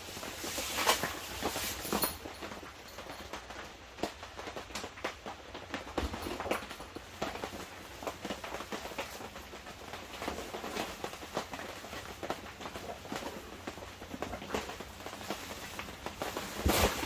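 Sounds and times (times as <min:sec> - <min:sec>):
rain dripping on canvas tent: 0:00.0 - 0:17.0.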